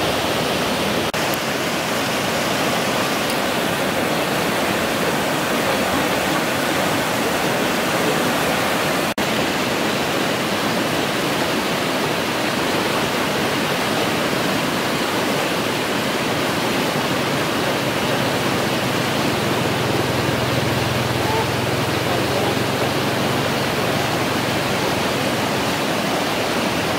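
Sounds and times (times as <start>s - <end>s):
water rushing over spillway: 0.0s - 26.9s.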